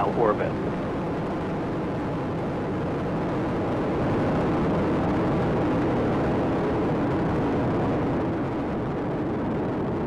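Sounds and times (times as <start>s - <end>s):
rocket exhaust roar: 0.0s - 10.0s.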